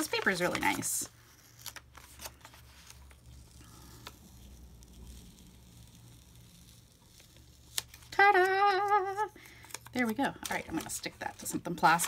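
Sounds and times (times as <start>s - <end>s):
paper sticker peeling crackle: 0.0s - 12.0s.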